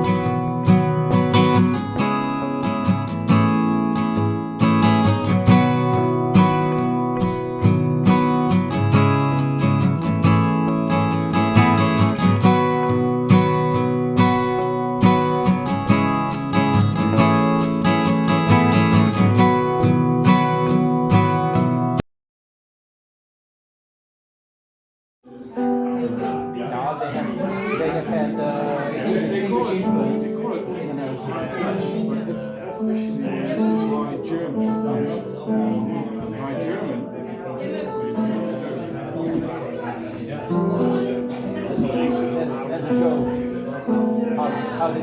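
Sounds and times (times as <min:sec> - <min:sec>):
strummed acoustic guitar: 0:00.0 - 0:22.0, 0:25.3 - 0:45.0.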